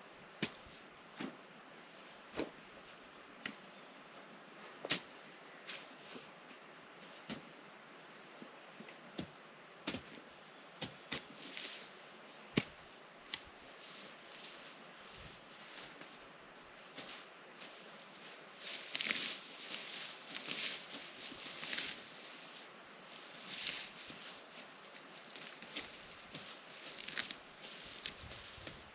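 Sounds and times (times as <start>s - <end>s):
insects chirring: 0.0s - 28.9s.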